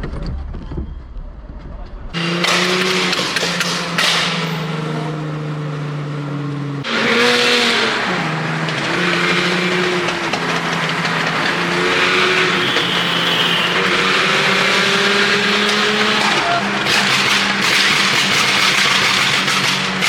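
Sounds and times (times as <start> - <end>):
car engine running: 2.1 - 20.0.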